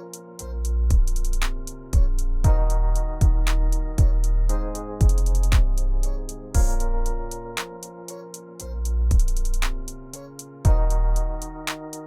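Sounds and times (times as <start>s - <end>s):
hip-hop music: 0.0s - 12.0s.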